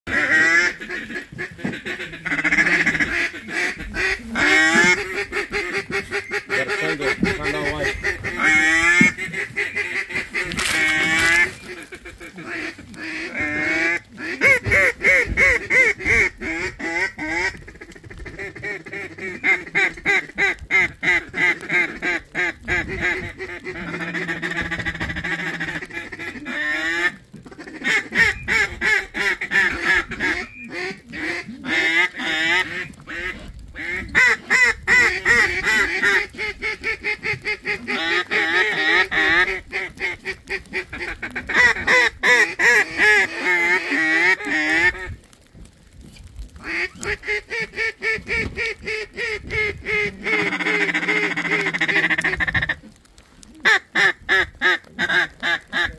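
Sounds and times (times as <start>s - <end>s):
duck quacking: 0.1s - 45.2s, 46.5s - 53.0s, 53.6s - 55.9s.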